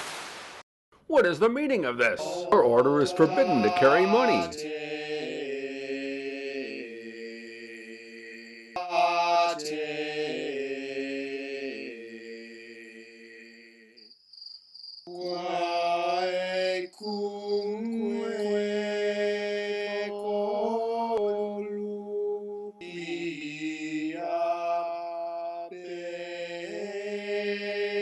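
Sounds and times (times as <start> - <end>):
chant-like vocal music: 2.0 - 14.0, 15.1 - 28.0.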